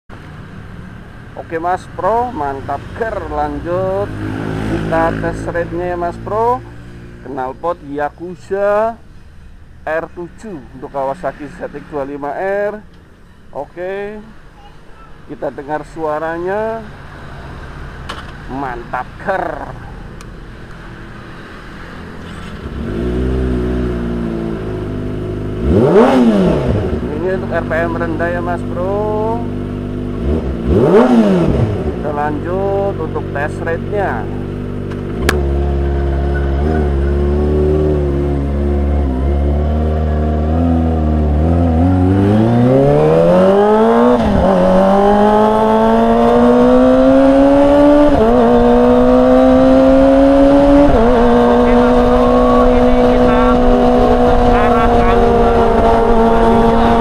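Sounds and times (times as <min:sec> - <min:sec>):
motorcycle engine idling and revving: 0:00.1 - 0:57.0.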